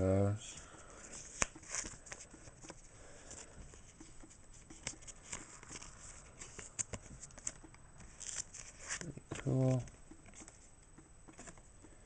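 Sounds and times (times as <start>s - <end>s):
plastic sleeves rustling: 0.6s - 10.7s.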